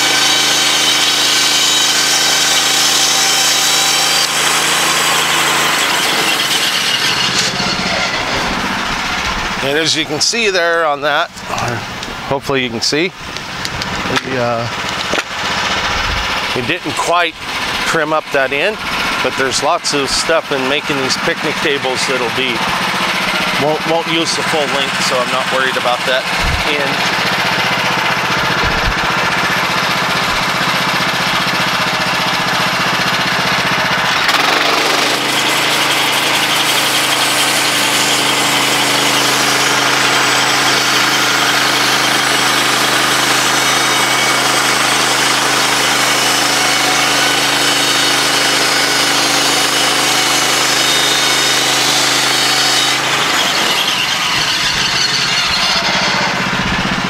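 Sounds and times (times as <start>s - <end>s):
sawmill gas engine running: 0.0s - 57.0s.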